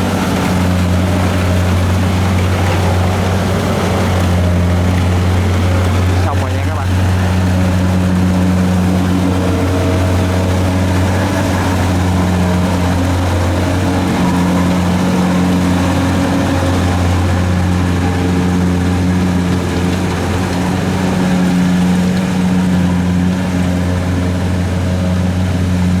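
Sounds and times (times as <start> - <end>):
diesel engine running: 0.0 - 26.0
harvester machinery noise: 0.0 - 26.0.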